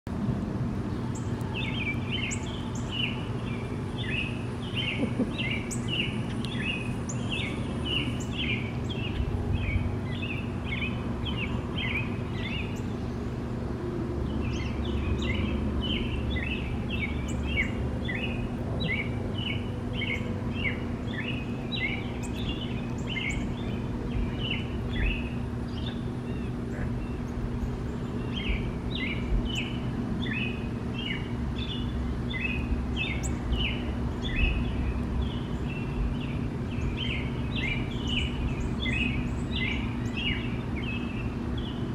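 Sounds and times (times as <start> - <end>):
low background hum: 0.1 - 41.9.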